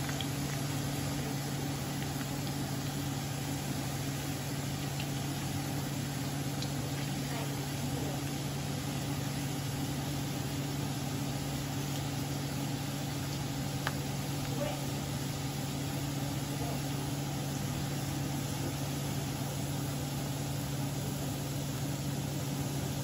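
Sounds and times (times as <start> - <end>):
crackles while stirring: 0.0 - 23.0
garlic sizzling in oil: 0.0 - 23.0
steady low hum: 0.0 - 23.0.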